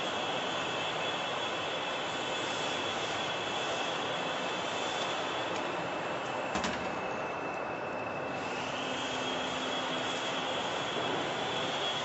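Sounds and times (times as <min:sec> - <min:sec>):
industrial machinery drone: 0:00.0 - 0:12.0
thin high whine: 0:00.0 - 0:12.0.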